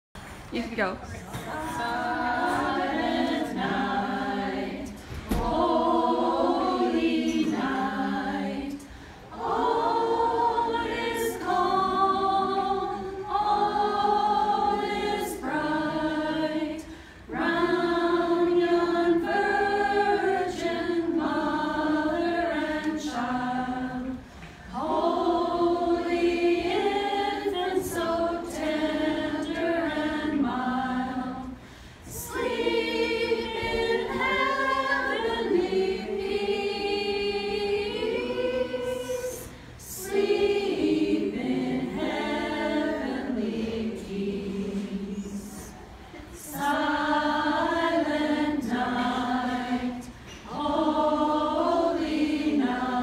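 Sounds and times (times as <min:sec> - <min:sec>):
women singing a cappella: 0:01.2 - 0:53.0.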